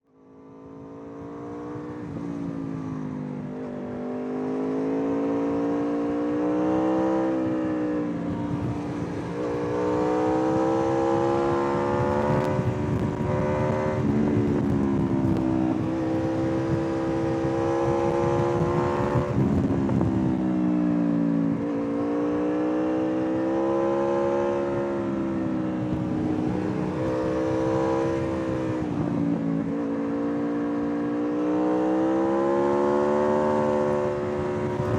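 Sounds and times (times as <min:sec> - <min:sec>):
motorcycle engine revving: 0:00.8 - 0:34.9
rushing wind noise: 0:06.1 - 0:34.9.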